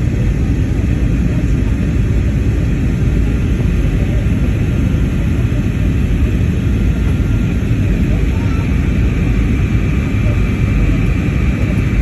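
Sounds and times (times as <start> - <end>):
jet cabin engine rumble: 0.0 - 12.0.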